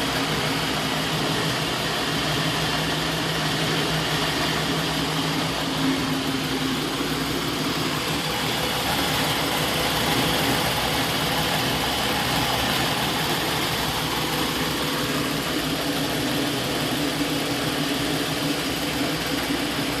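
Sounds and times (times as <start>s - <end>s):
engine rough idle: 0.0s - 20.0s.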